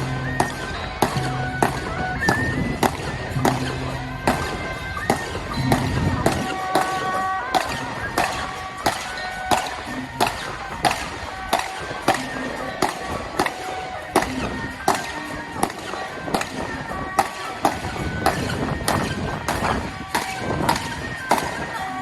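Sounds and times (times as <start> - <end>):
high melody line: 0.0 - 22.0
loud percussion strikes: 0.0 - 22.0.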